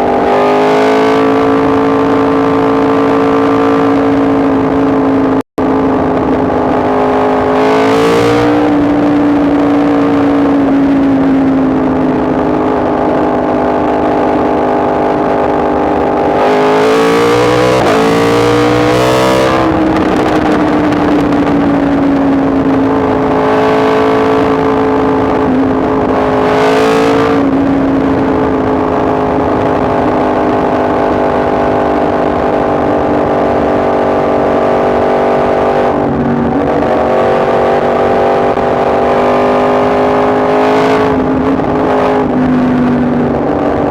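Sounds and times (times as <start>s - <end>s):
motorcycle engine running: 0.0s - 43.9s
rush of noise: 0.0s - 43.9s.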